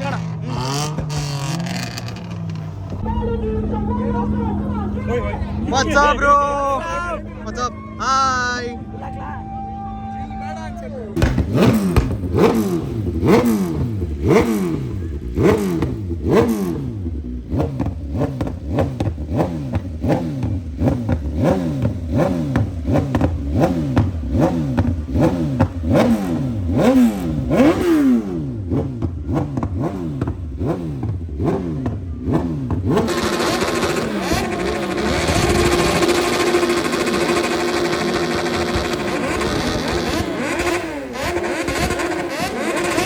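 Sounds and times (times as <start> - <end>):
engine revving in throttle blips: 0.0 - 9.8, 11.2 - 43.0.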